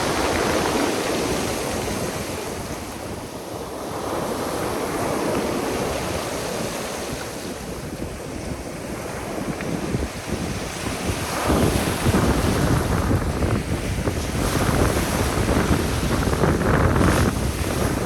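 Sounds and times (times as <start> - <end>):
surf breaking on shore: 0.0 - 18.0.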